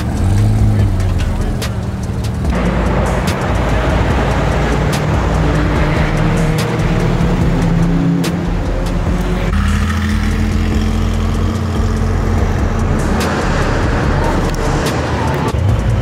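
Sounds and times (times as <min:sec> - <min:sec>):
sports car passing under throttle: 0:00.0 - 0:15.8
car engine pulling away: 0:00.0 - 0:16.0.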